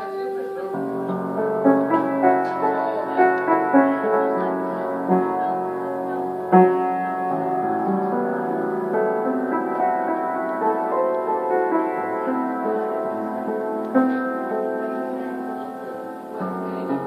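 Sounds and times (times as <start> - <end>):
piano notes and chords: 0.0 - 17.0.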